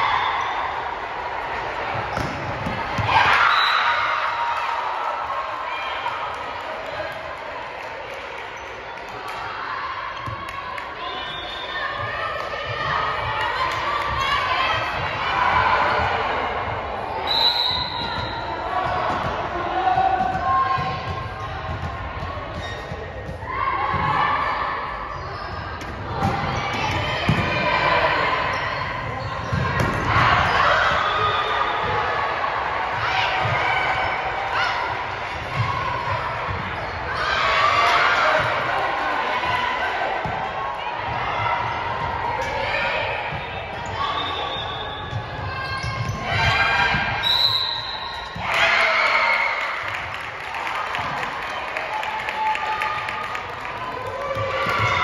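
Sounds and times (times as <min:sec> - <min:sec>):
balls thudding in a hall: 0:00.0 - 0:55.0
spectators cheering and shouting: 0:00.0 - 0:55.0
voices around court: 0:00.0 - 0:55.0.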